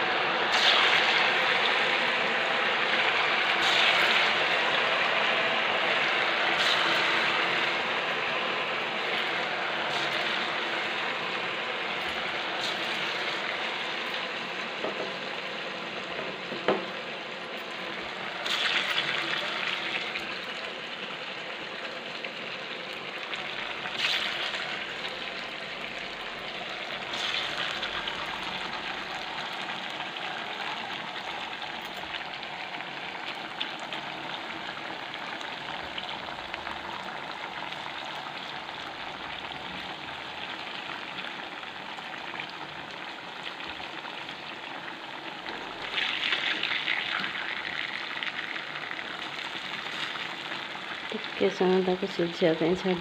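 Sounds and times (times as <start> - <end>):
batter sizzling in hot oil: 0.0 - 53.0.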